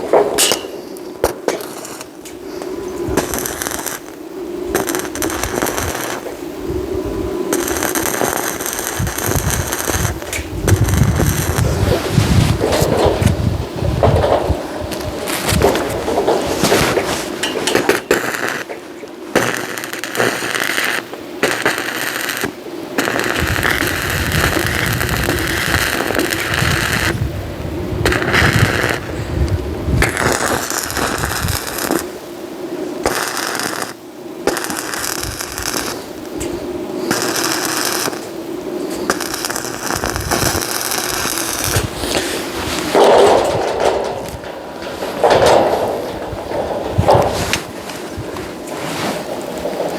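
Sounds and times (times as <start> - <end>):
electric arc welding crackle: 0.0 - 49.9.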